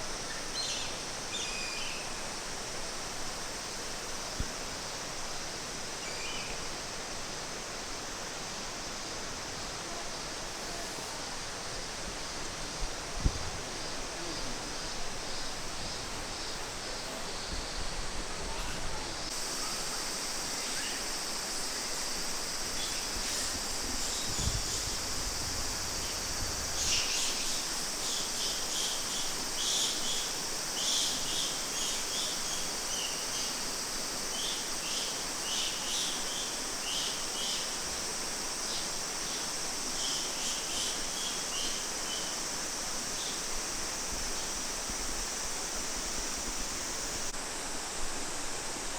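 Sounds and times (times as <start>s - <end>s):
high hiss: 0.0s - 48.9s.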